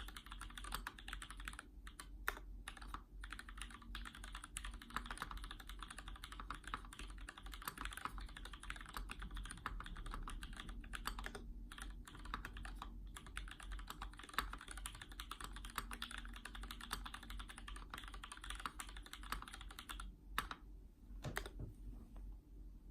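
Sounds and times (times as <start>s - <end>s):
typing on mechanical keyboard: 0.0s - 20.6s, 21.2s - 21.6s.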